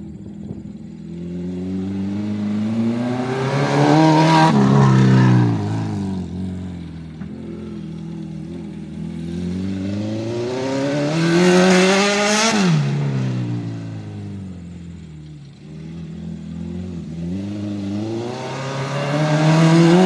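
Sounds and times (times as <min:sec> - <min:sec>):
race car engine revving: 0:01.1 - 0:20.0.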